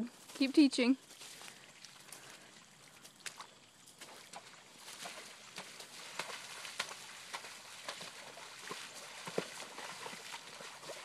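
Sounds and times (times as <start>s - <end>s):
hoof splashing in puddle: 0.1s - 11.0s.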